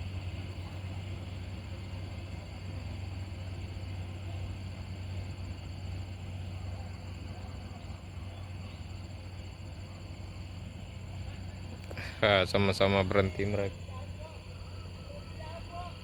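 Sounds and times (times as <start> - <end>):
outdoor background noise: 0.0 - 16.0
truck diesel engines droning: 0.0 - 16.0.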